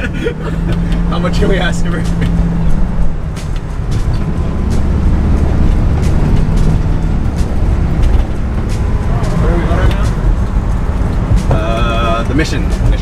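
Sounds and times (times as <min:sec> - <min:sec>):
body clicks and rattles: 0:00.0 - 0:13.0
road rumble: 0:00.0 - 0:13.0
van engine droning: 0:00.0 - 0:13.0.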